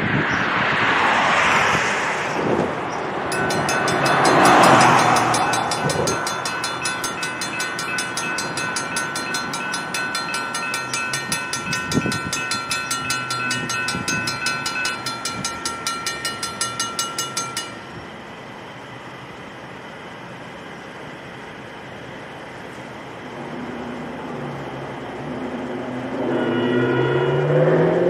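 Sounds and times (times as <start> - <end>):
railroad crossing bells ringing: 3.0 - 28.0.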